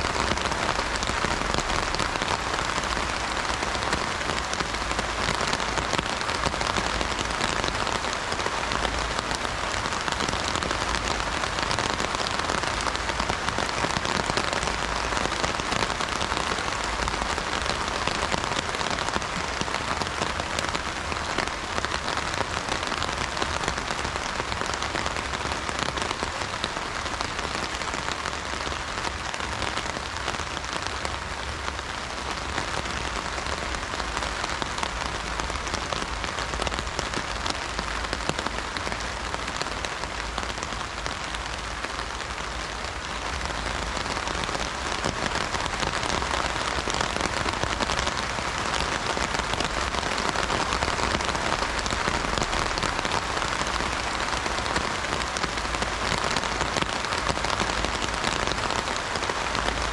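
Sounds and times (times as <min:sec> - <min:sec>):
heavy rain on umbrella: 0:00.0 - 0:59.9.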